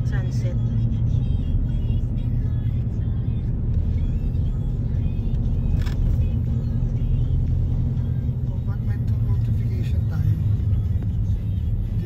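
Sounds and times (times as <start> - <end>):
car road rumble inside cabin: 0.0 - 12.0.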